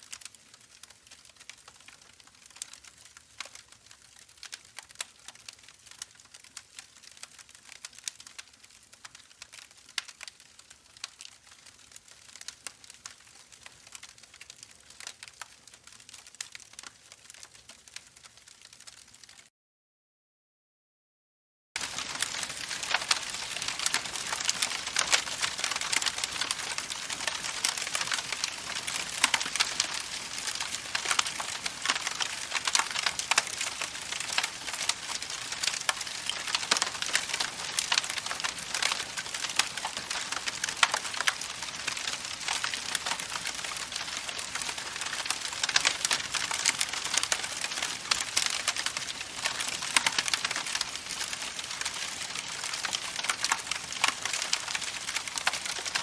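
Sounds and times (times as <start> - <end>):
campfire crackling: 0.0 - 19.4, 21.8 - 56.0.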